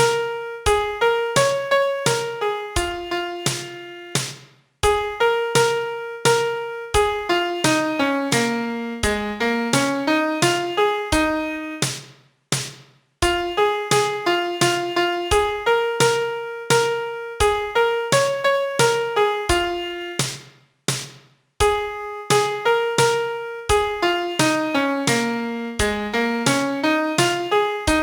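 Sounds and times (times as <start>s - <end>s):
piano melody: 0.0s - 4.2s, 4.8s - 11.9s, 13.2s - 20.2s, 21.6s - 28.0s.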